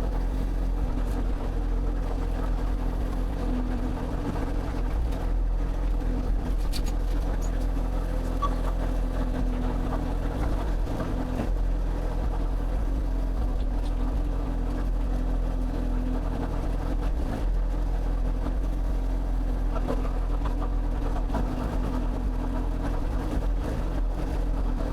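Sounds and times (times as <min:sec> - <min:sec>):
excavator engine running: 0:00.0 - 0:24.9.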